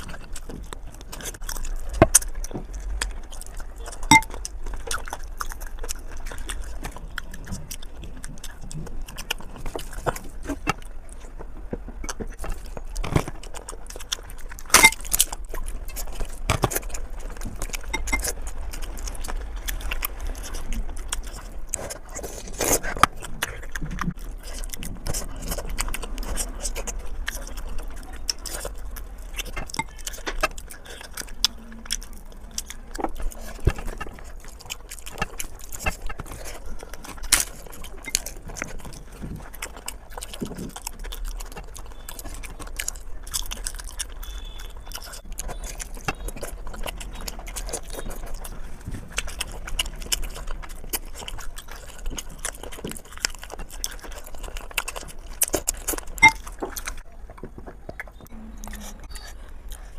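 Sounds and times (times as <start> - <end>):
wet chewing and mouth smacks: 0.0 - 59.9.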